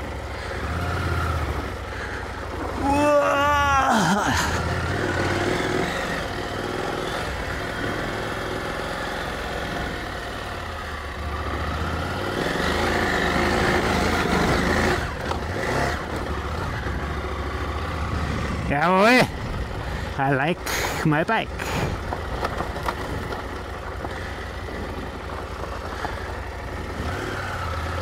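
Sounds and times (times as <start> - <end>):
motorcycle engine on gravel: 0.0 - 3.6, 4.4 - 28.0.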